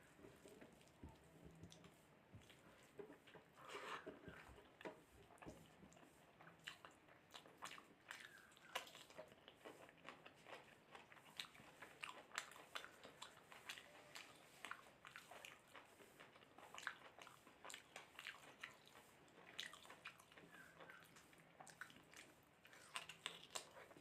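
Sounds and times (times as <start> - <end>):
person chewing food: 0.1 - 24.0.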